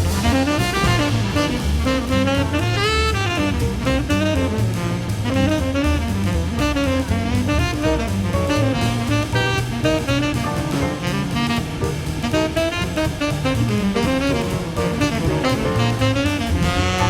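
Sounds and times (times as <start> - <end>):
jazz music with saxophone: 0.0 - 17.0.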